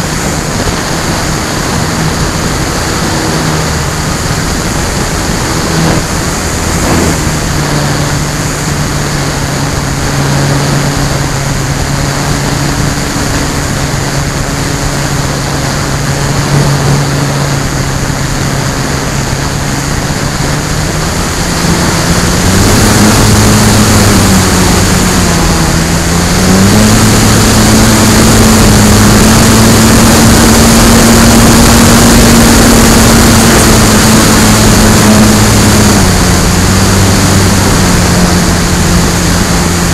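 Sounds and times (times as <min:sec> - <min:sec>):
electric motor and propeller drone: 0:00.0 - 0:39.9
wind rushing: 0:00.0 - 0:39.9.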